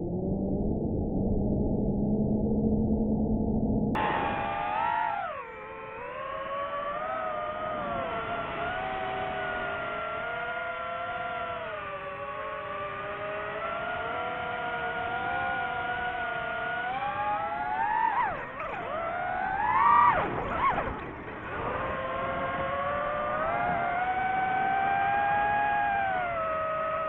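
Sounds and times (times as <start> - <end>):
drone propellers whining: 3.6 - 27.0.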